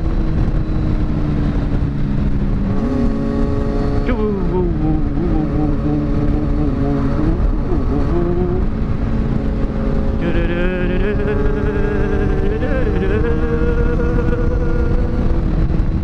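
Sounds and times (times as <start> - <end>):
low rush of noise: 0.0 - 16.0
motorcycle engines running: 0.0 - 16.0
higher-pitched engine note: 2.6 - 16.0.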